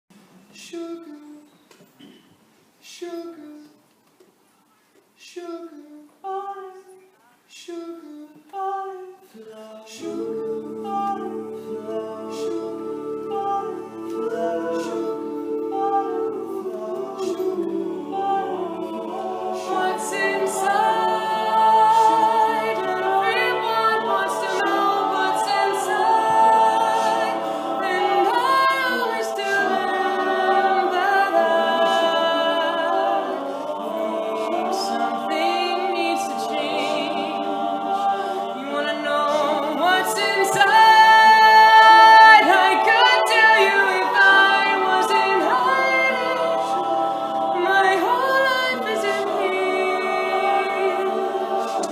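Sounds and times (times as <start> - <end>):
male vocal group singing in harmony: 7.7 - 51.9.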